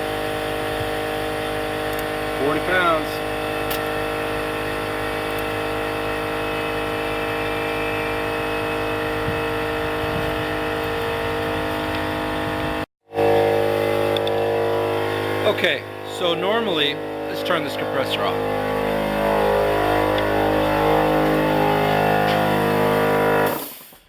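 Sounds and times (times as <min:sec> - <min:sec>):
electric air compressor running: 0:00.0 - 0:24.0.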